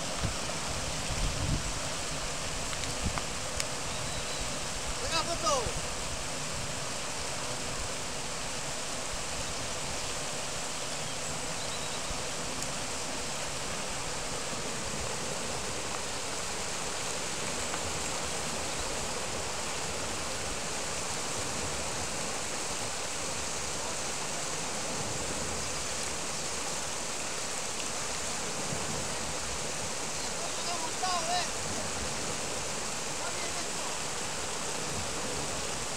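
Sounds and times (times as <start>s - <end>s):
river water rushing over weir: 0.0s - 35.9s.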